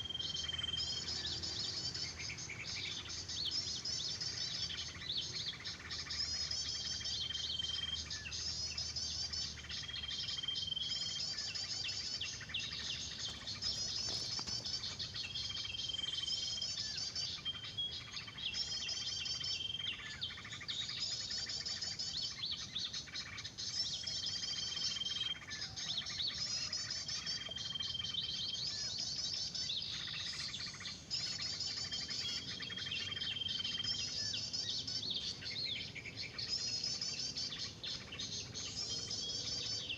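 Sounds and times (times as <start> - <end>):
songbird calls from a speaker: 0.0 - 39.9.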